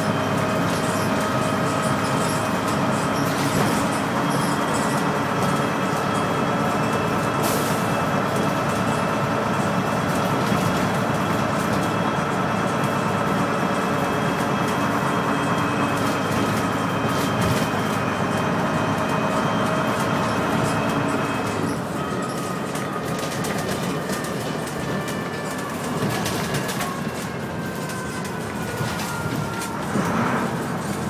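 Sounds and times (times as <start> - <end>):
bus body rattles: 0.0 - 31.0
bus engine running: 0.0 - 31.0.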